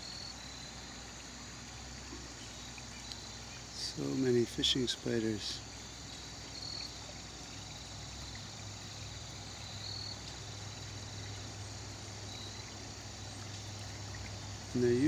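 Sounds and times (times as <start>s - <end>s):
insects trilling: 0.0s - 15.0s
low steady hum: 0.0s - 15.0s.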